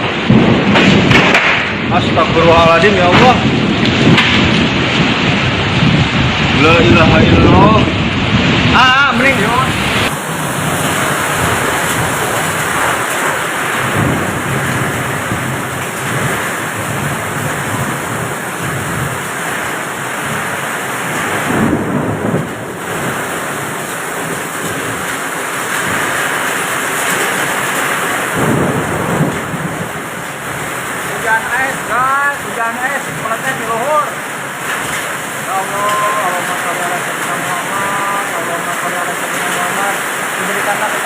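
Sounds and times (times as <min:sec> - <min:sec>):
heavy wind-driven rain: 0:00.0 - 0:41.0.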